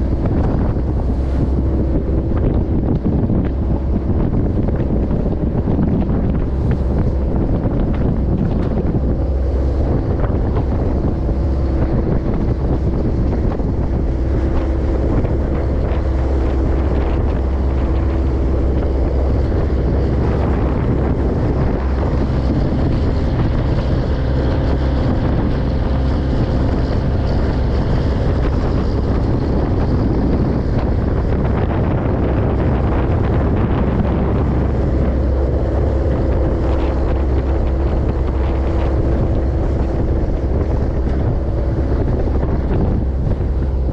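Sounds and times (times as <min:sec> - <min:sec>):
diesel engine rumbling: 0:00.0 - 0:43.9
wind buffeting microphone: 0:00.0 - 0:43.9.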